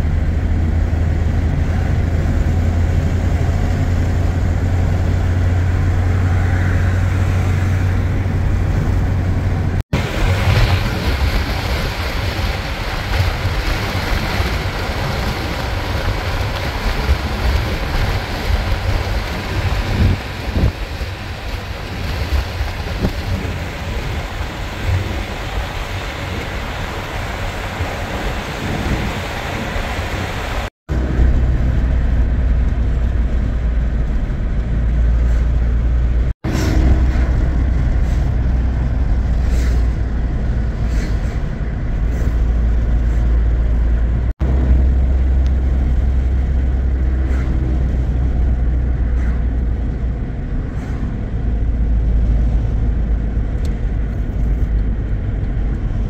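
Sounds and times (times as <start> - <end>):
rough wind-like noise: 0.0 - 56.0
vehicle low rumble: 0.0 - 56.0.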